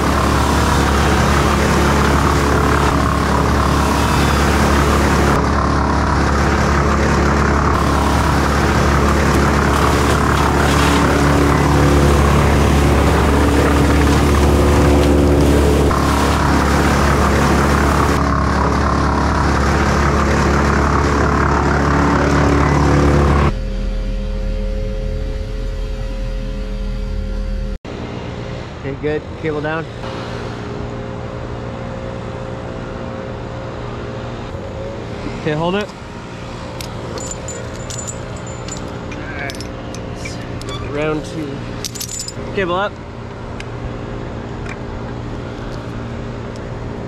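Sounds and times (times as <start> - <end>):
large engine running loudly: 0.0 - 47.0.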